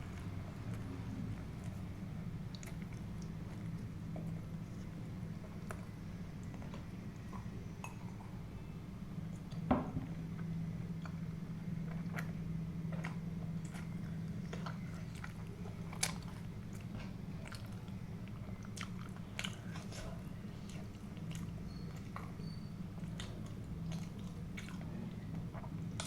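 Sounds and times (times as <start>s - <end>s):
person chewing food: 0.1s - 8.2s, 10.3s - 26.0s.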